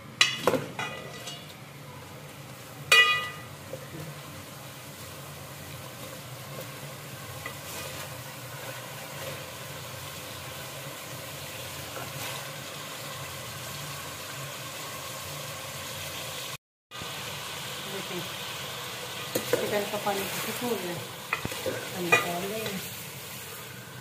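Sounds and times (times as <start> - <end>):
chicken sizzling in a pot: 0.0 - 24.0.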